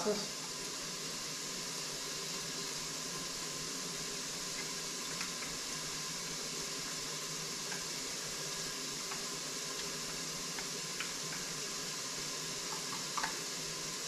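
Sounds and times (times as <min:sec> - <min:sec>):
bacon sizzling: 0:00.0 - 0:14.0.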